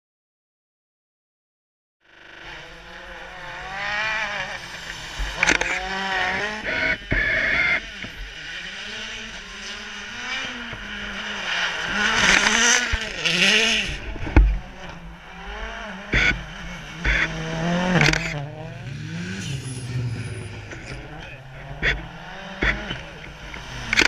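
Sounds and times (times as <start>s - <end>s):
rally car engine revving: 2.1s - 24.0s.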